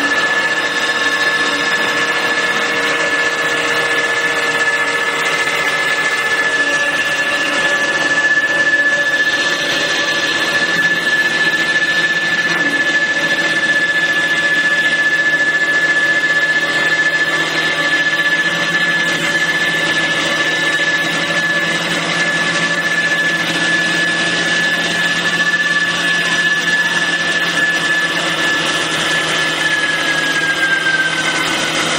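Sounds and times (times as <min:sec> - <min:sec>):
lathe high whine: 0:00.0 - 0:31.9.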